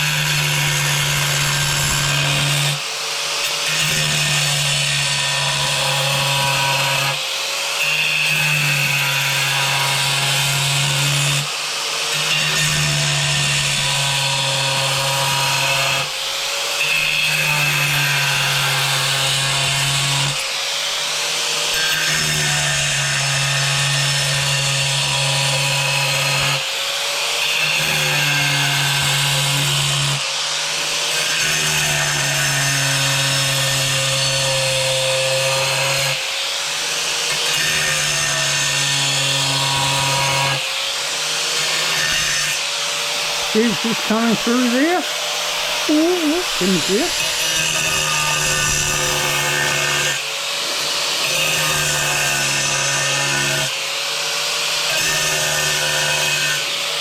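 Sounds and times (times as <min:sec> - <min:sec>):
angle grinder grinding tile: 0:00.0 - 0:57.0.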